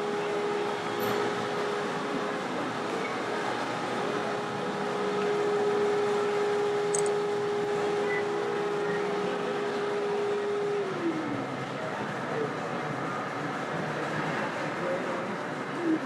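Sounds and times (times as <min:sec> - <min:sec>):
exhibition hall background noise: 0:00.0 - 0:16.0.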